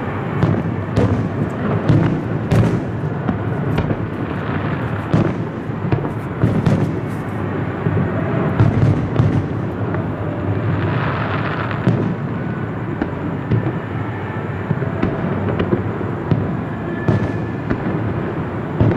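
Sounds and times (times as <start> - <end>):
continuous rumble: 0.0 - 18.9.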